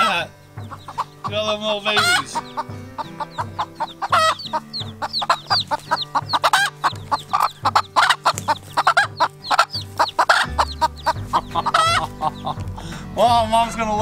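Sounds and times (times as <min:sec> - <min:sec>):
baby chicks peeping: 0:00.0 - 0:14.0
hen clucking: 0:00.0 - 0:14.0.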